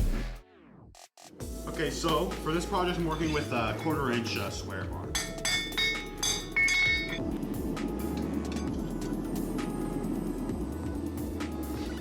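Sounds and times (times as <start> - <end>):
gas forge burner rushing: 1.5 - 12.0.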